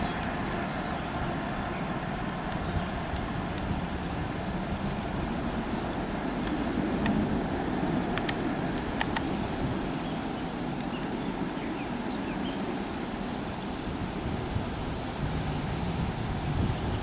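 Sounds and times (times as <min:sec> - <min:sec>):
wind noise on microphone: 0:00.0 - 0:11.2, 0:13.2 - 0:17.0.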